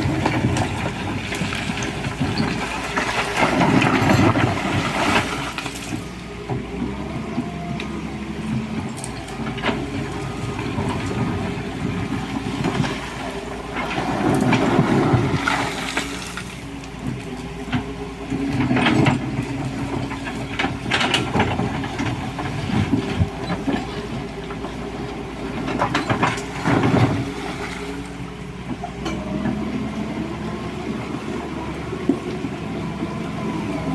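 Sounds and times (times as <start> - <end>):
excavator diesel engine running: 0.0 - 33.9
gravel clattering: 0.0 - 33.9.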